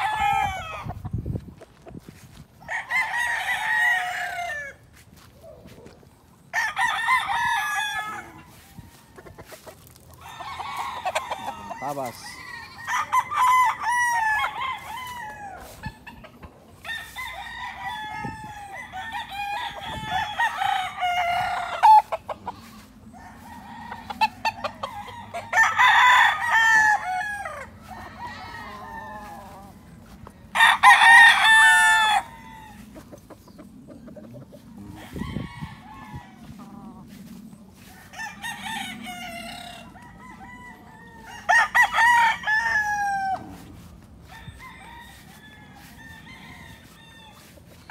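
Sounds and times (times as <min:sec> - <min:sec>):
roosters crowing: 0:00.0 - 0:47.9.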